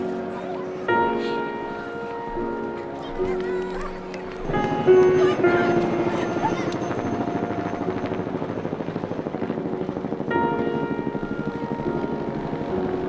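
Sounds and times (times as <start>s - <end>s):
held musical chord: 0.0s - 13.0s
helicopter rotor chopping: 2.4s - 13.0s.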